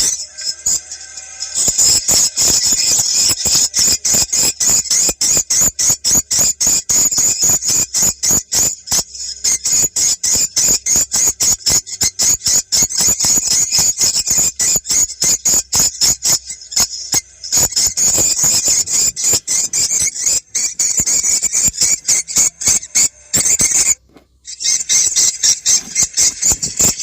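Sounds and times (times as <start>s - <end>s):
swiftlet calls: 0.0s - 5.2s, 10.2s - 27.0s.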